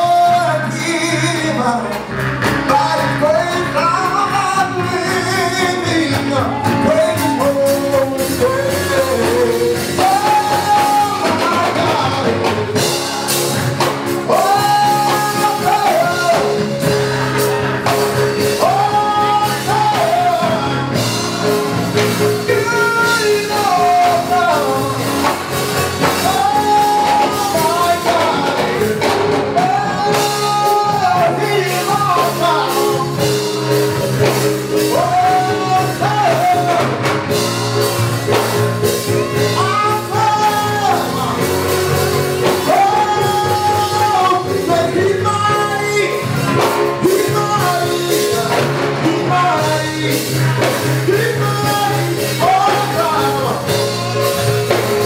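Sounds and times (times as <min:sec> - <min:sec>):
gospel band playing: 0:00.0 - 0:55.0
person singing: 0:00.0 - 0:55.0.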